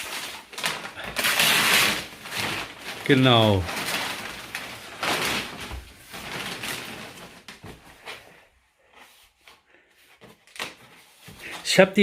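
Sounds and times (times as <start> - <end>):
gift packaging rustling: 0.0 - 12.0.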